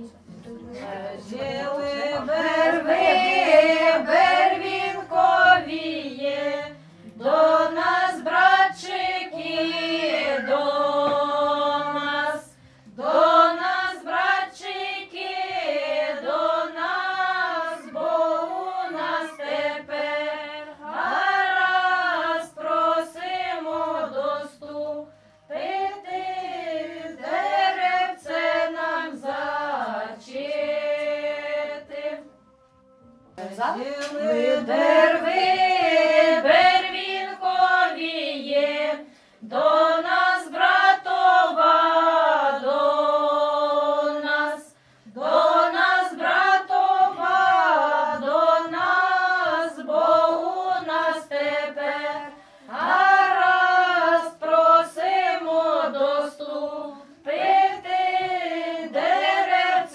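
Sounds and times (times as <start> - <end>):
women singing unaccompanied: 0.0 - 32.5, 33.3 - 59.9.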